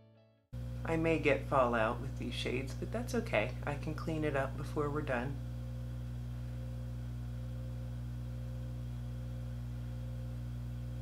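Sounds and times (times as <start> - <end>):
steady low hum: 0.6 - 11.0.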